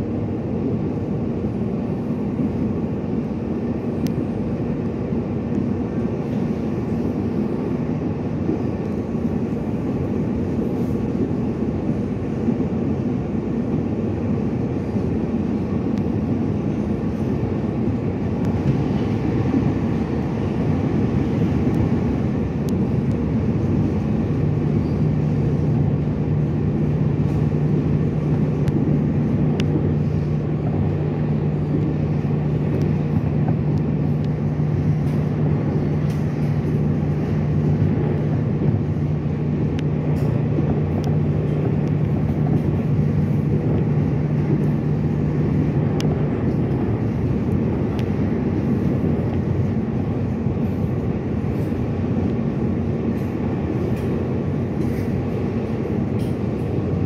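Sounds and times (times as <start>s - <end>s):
train motor hum: 0.0s - 57.0s
wheels rumbling on rail: 0.0s - 57.0s.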